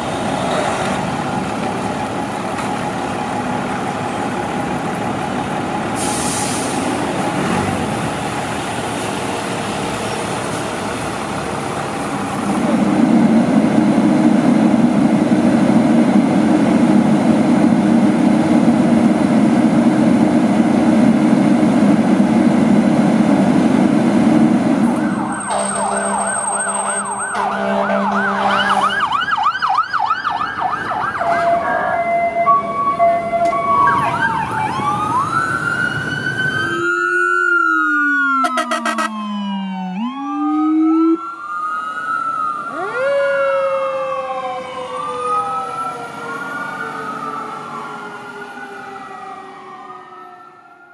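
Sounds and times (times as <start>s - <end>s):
fire engine running: 0.0s - 50.9s
fire truck sirens wailing: 0.0s - 50.9s.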